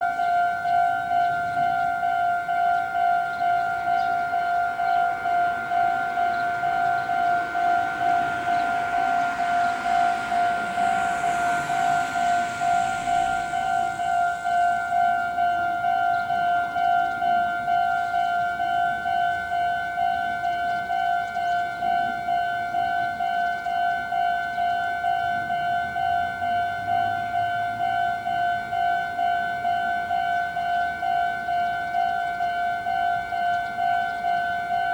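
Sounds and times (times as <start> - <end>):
level crossing warning bell: 0.0 - 34.9
train passing: 0.0 - 34.9.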